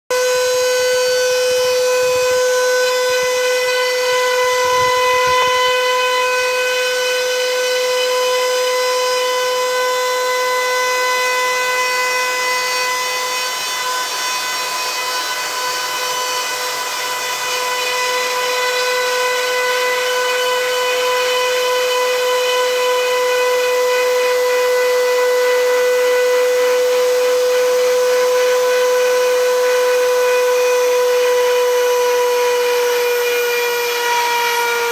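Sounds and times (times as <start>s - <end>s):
router spindle whining: 0.1s - 34.9s.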